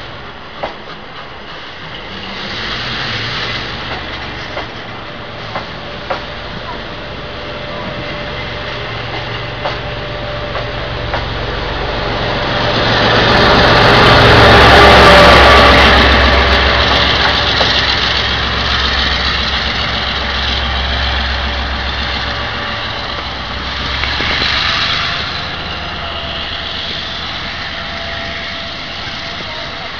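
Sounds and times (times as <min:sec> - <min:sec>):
diesel locomotive engine drone: 0:00.0 - 0:29.9.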